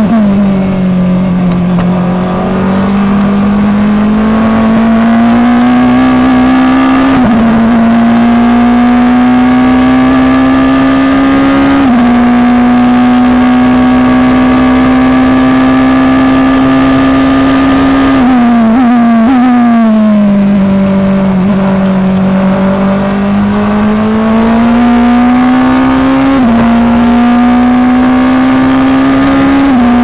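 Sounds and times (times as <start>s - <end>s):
race car engine at full throttle: 0.0s - 30.0s.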